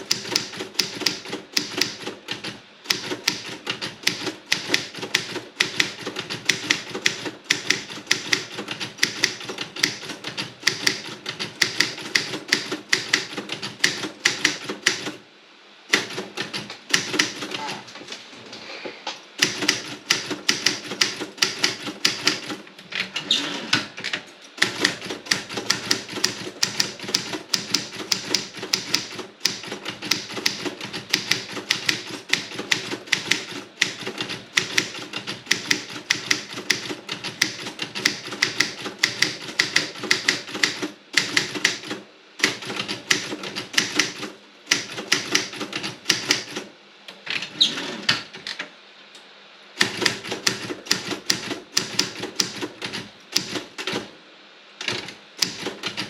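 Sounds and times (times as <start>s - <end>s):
manual typewriter key strikes: 0.0s - 15.2s, 15.9s - 17.6s, 19.4s - 22.6s, 24.6s - 46.7s, 49.8s - 54.1s, 54.8s - 56.0s.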